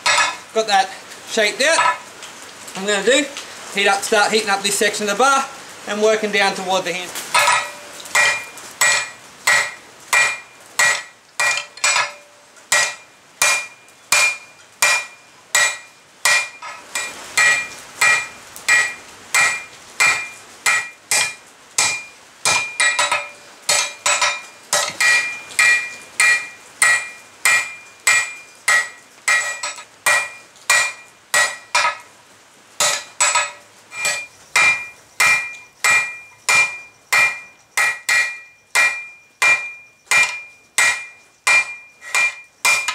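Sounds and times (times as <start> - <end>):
hammer striking steel on anvil: 0.0 - 0.4, 7.3 - 32.0, 32.8 - 42.9.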